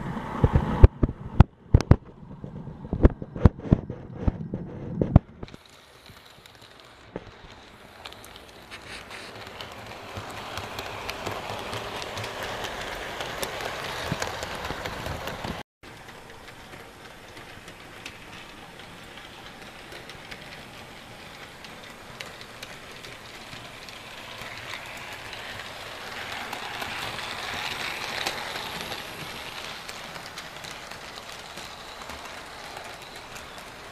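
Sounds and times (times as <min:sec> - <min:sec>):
model train wheels rattling: 0:05.1 - 0:33.9.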